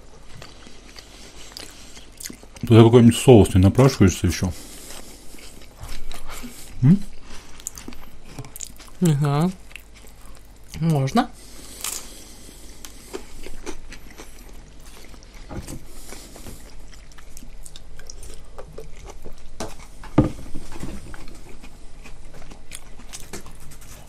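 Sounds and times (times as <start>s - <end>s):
chewing: 0.0s - 3.3s, 4.5s - 10.8s, 11.4s - 24.0s.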